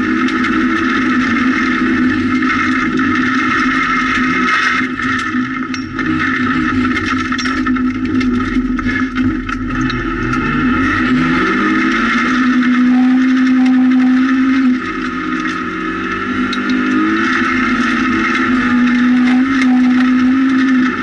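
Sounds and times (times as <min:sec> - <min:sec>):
gravel striking car underbody: 0:00.0 - 0:21.0
rally car engine at high revs: 0:00.0 - 0:21.0.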